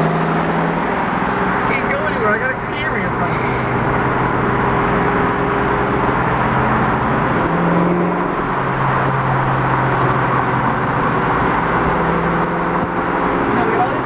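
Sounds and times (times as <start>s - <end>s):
car engine running at low revs: 0.0s - 14.0s
road noise: 0.0s - 14.0s.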